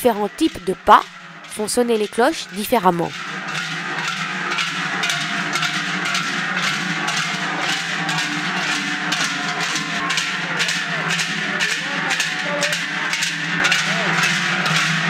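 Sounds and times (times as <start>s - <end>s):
large cowbells clanging: 0.0s - 15.0s.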